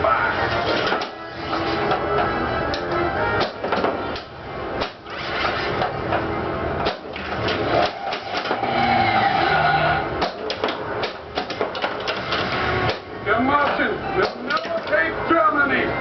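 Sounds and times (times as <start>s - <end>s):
pinball flippers clicking and knocking: 0.6s - 8.6s, 10.2s - 15.1s.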